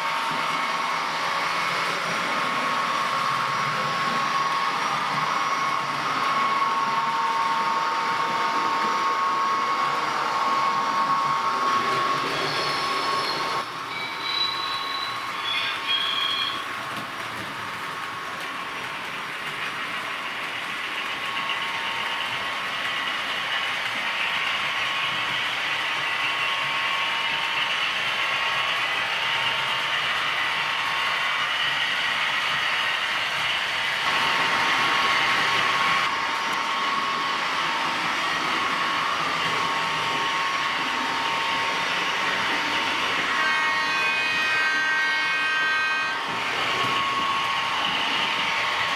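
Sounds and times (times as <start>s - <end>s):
model diesel locomotive running: 0.0s - 48.9s.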